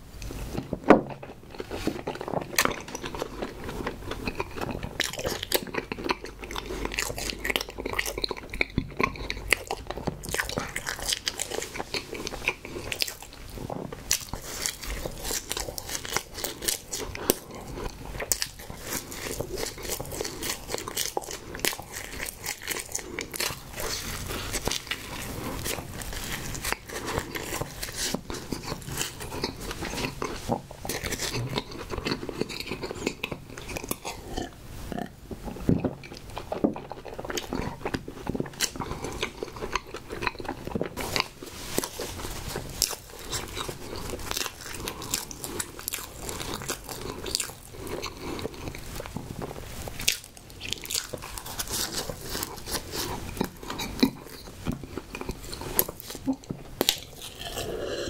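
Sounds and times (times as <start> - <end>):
chewing with mouth clicks: 0.2 - 58.0.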